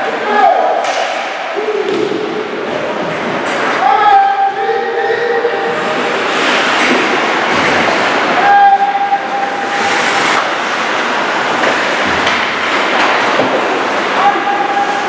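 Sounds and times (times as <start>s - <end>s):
sports crowd noise: 0.0s - 15.0s.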